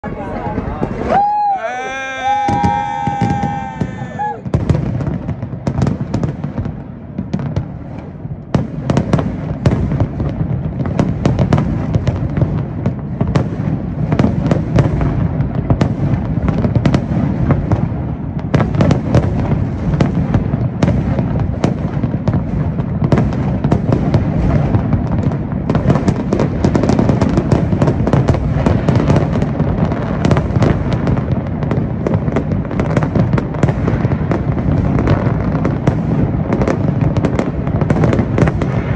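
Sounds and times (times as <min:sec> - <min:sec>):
fireworks bursting: 0:00.5 - 0:38.9.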